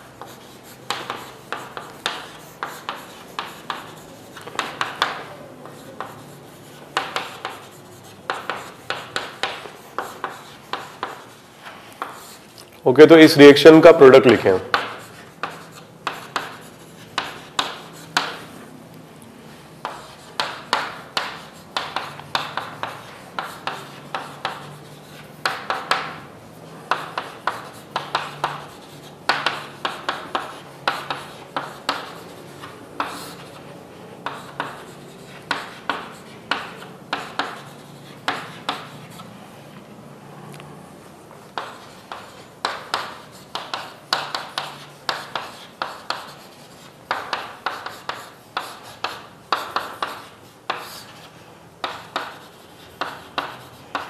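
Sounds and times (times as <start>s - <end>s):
pen scratching on board: 0.0s - 12.6s, 14.3s - 18.7s, 19.5s - 39.3s, 41.4s - 54.0s.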